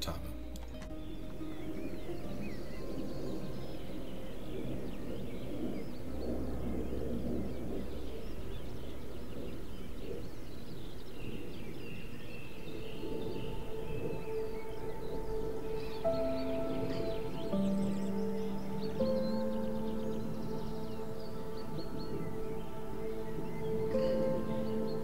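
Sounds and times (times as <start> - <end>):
low background rumble: 0.0 - 25.0
songbirds singing and chirping: 0.0 - 25.0.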